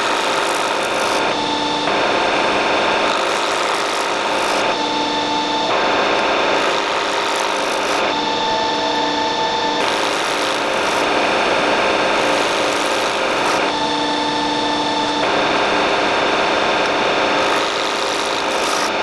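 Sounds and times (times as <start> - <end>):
metal lathe running: 0.0 - 19.0.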